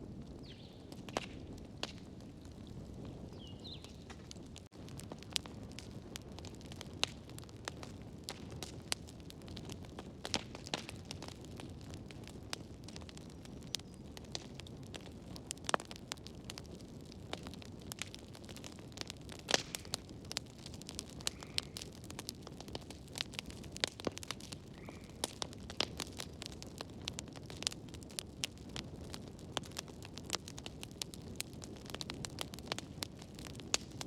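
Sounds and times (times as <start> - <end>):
low rush of flames: 0.0 - 34.0
wood fire crackling and popping: 0.0 - 34.0.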